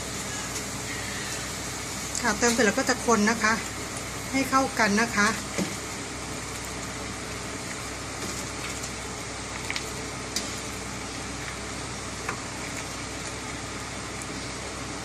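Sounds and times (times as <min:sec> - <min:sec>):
soup boiling in a pot: 0:00.0 - 0:15.0.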